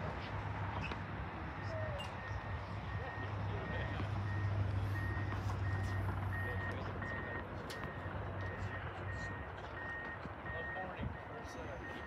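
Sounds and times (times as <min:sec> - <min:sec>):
reversing alarm beeping: 0:01.6 - 0:12.0.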